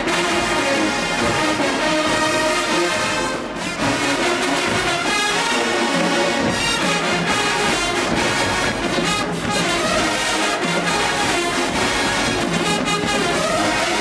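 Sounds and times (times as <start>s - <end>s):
marching band playing: 0.0s - 14.0s
percussion hits: 0.0s - 14.0s.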